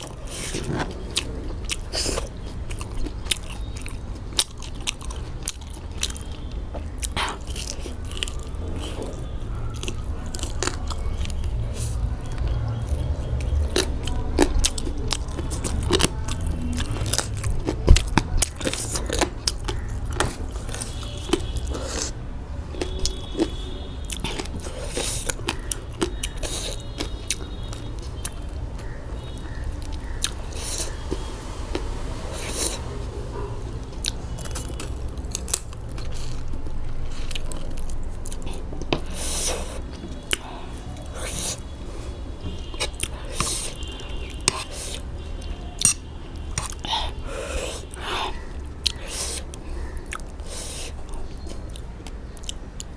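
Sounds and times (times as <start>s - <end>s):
chewing and biting food: 0.0s - 52.9s.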